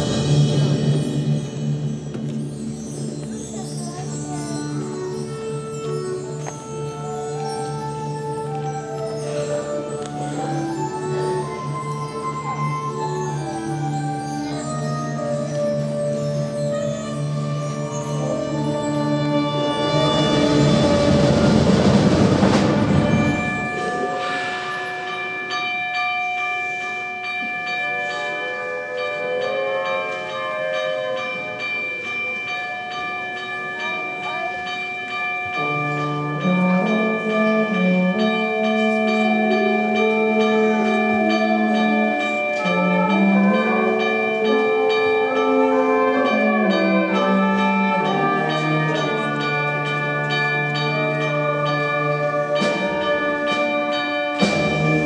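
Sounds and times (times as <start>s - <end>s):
concert band playing slowly: 0.0s - 55.0s.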